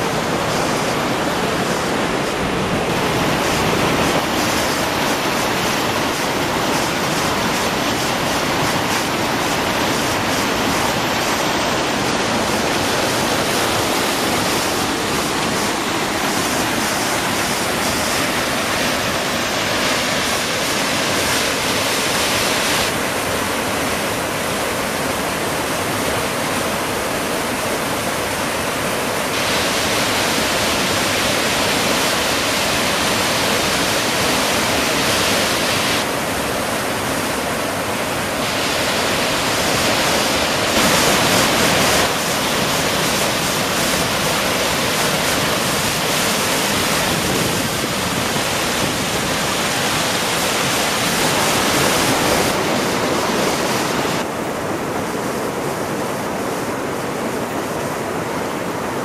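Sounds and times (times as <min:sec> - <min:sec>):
floodwater rushing over rocks: 0:00.0 - 0:59.0.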